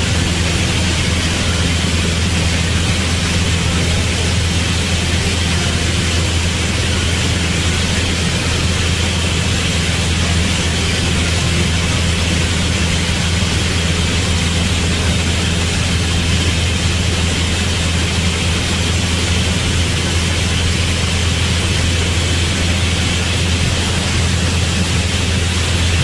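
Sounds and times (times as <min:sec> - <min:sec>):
propeller engine droning: 0:00.0 - 0:26.0
rushing air noise: 0:00.0 - 0:26.0.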